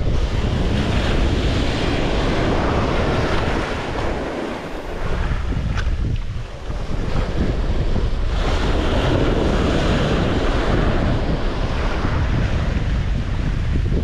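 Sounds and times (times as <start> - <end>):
sea waves: 0.0 - 14.0
wind buffeting microphone: 0.0 - 14.0.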